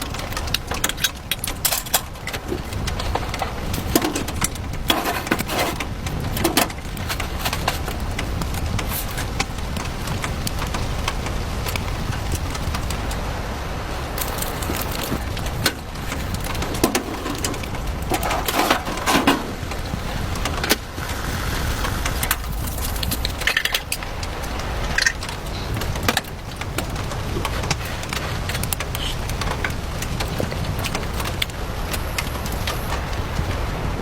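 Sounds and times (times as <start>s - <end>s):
sharp clicks and knocks: 0.0s - 13.3s, 14.1s - 33.7s
steady rain: 0.0s - 34.0s.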